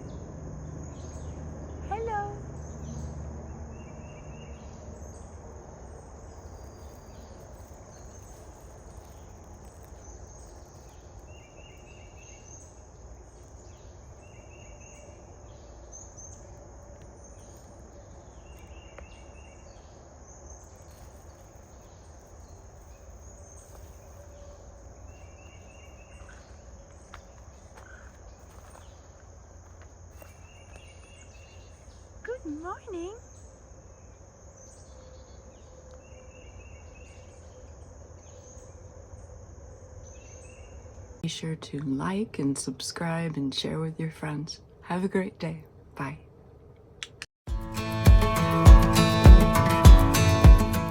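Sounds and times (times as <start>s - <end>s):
insects trilling: 0.0s - 41.5s.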